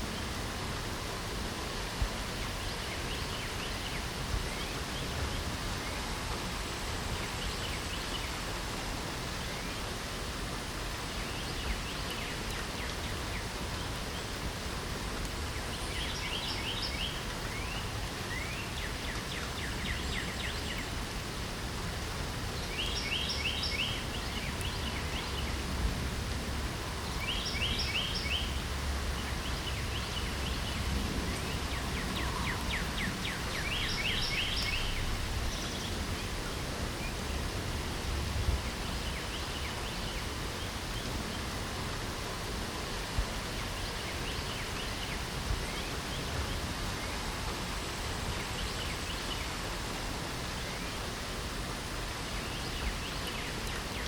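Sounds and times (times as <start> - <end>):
light rain hissing: 0.0 - 54.0
songbird singing: 1.6 - 10.2, 10.8 - 54.0.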